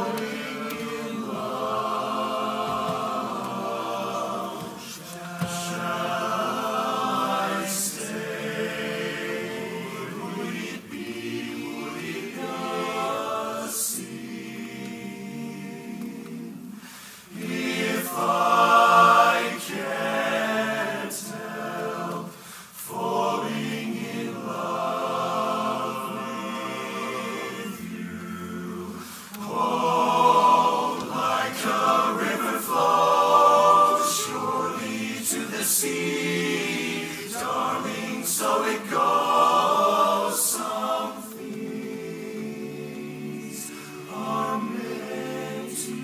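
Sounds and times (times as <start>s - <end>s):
men's chorus singing a cappella: 0.0s - 46.0s.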